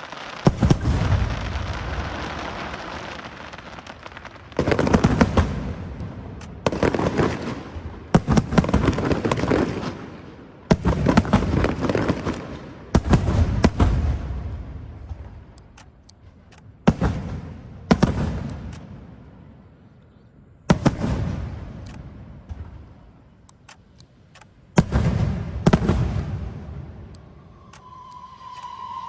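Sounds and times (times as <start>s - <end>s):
fireworks crackling: 0.0s - 18.8s, 23.7s - 29.0s
fireworks bangs: 0.0s - 19.1s, 20.7s - 23.1s, 24.7s - 29.0s.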